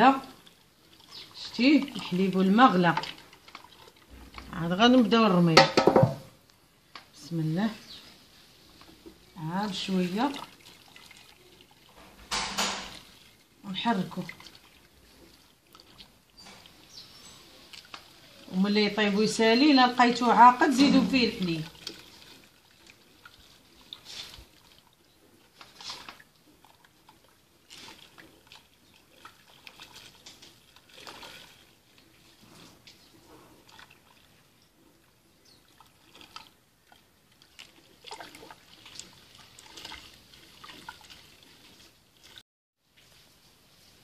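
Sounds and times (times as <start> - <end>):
liquid sloshing and trickling: 0.0 - 6.3, 6.9 - 44.0.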